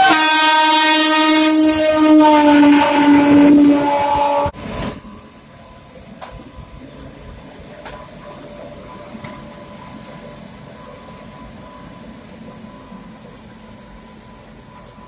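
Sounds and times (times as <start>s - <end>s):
electric locomotive humming: 0.0s - 15.0s.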